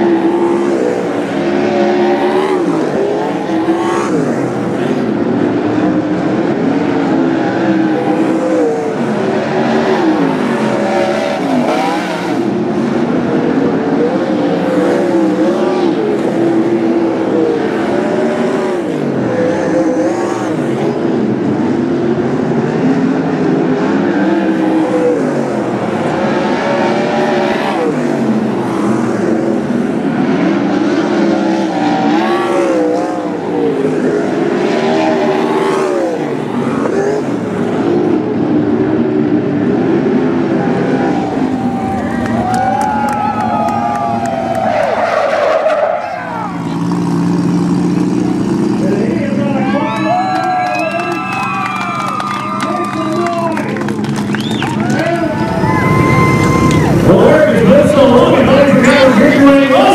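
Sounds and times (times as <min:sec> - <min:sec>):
racing car engines: 0:00.0 - 0:59.9.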